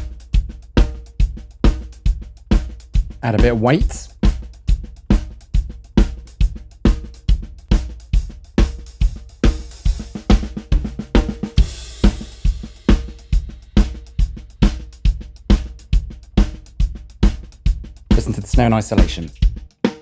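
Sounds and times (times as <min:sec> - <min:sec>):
drum kit playing steady beat: 0:00.0 - 0:20.0.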